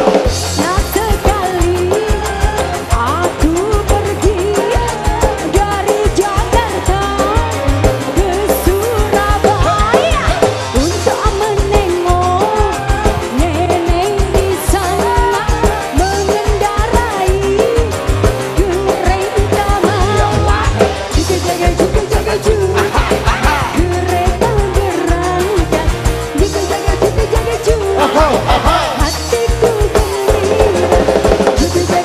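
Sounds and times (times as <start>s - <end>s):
bass line: 0.0s - 32.0s
driving drum beat: 0.0s - 32.0s.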